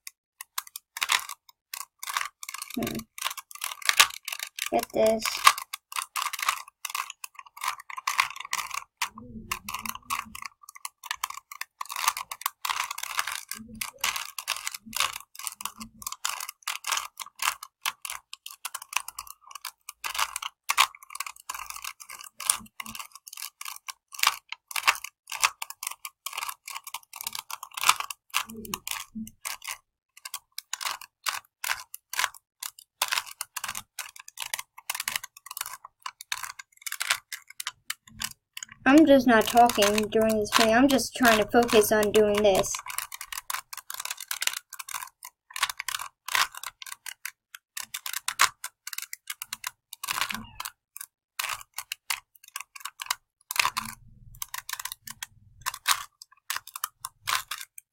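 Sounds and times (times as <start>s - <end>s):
puzzle cube layers clicking: 0.4s - 57.9s.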